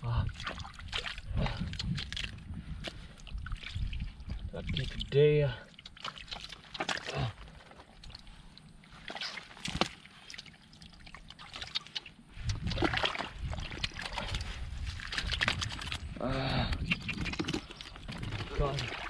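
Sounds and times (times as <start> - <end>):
hands sloshing in muddy water: 0.2 - 19.0.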